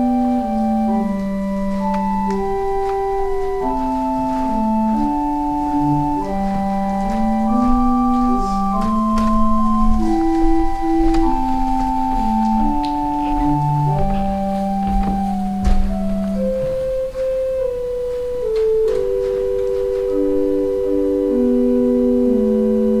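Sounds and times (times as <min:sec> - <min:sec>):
slow organ music: 0:00.0 - 0:23.0.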